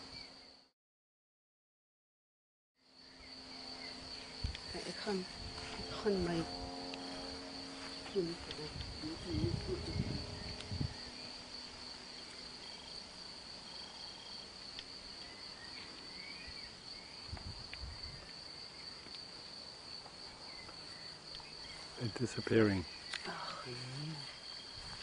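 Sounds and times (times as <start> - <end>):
insects trilling: 2.8 - 25.0.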